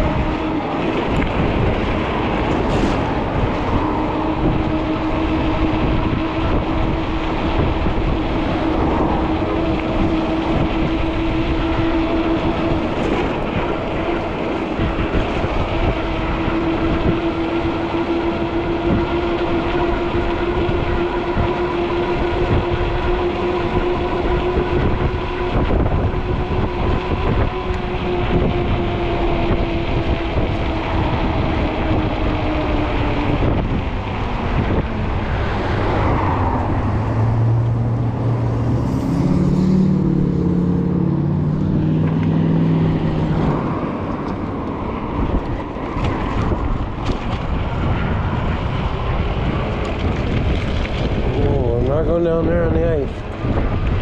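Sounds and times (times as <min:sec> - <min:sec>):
electric motor whine: 0:00.0 - 0:54.0
passing vehicle engine drone: 0:00.0 - 0:54.0
tires rolling on road: 0:00.0 - 0:54.0
wind rushing over microphone: 0:00.0 - 0:54.0.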